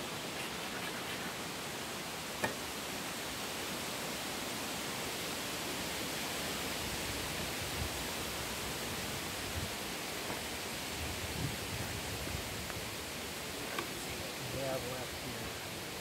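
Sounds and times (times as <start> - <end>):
hiss-like outdoor noise: 0.0 - 16.0.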